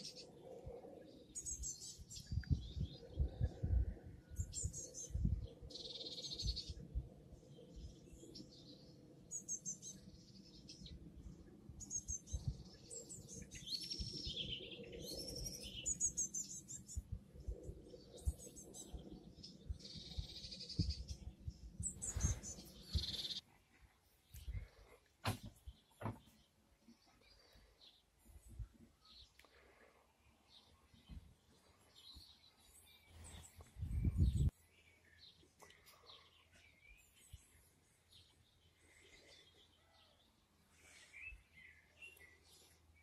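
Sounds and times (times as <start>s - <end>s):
birds chirping and singing: 0.0s - 23.4s, 24.0s - 43.0s.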